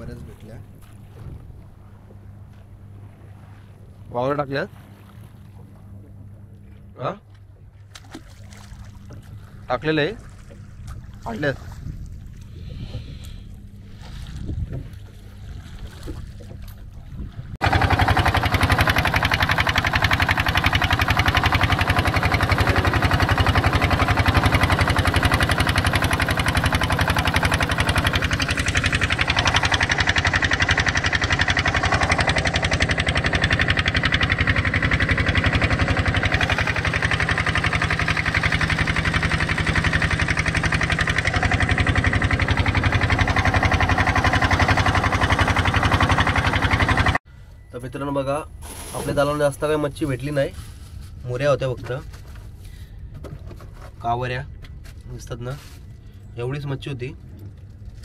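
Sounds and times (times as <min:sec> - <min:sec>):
boat engine pulsing: 0:00.0 - 0:58.0.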